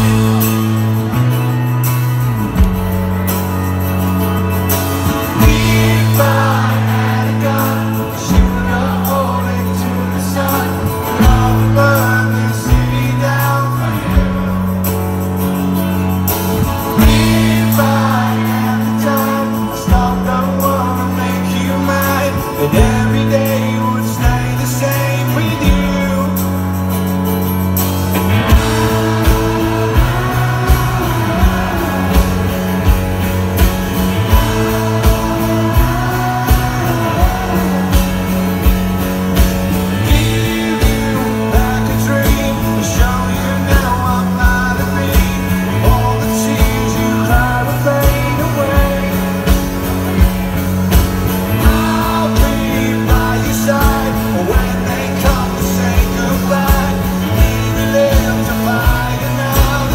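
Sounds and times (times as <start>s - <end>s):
man singing lead vocal: 0.0s - 1.2s, 5.0s - 27.2s, 28.1s - 59.9s
acoustic guitar strumming: 0.0s - 59.9s
drums steady beat: 0.0s - 59.9s.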